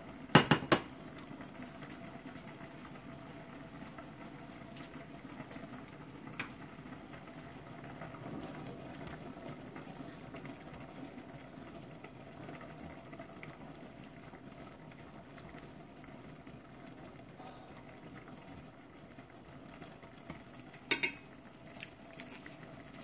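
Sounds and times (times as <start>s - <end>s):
pot boiling with low bubbling: 0.0s - 23.0s.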